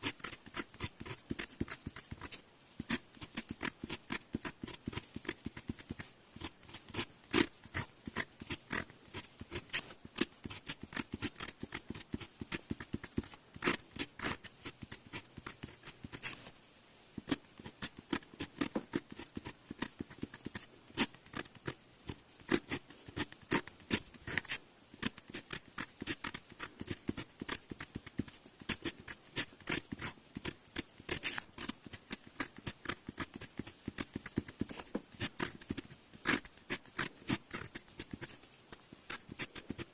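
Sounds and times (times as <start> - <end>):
pen nib scratching on paper: 0.0 - 16.6, 17.2 - 39.9.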